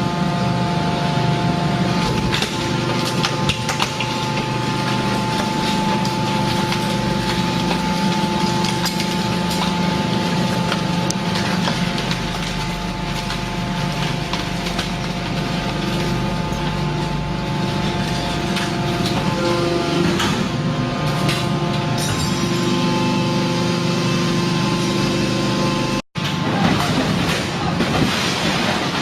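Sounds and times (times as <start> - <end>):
hydraulic machine hum and whine: 0.0 - 29.0.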